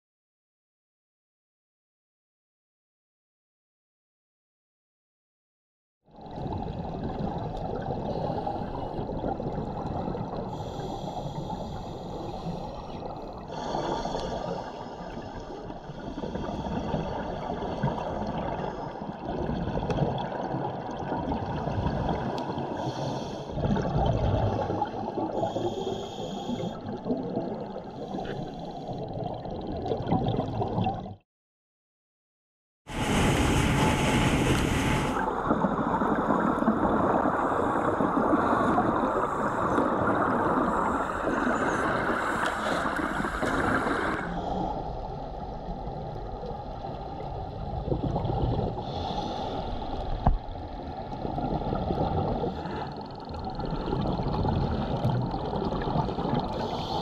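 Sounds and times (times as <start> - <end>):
underwater bubbling rush: 6.2 - 31.2, 32.9 - 57.0.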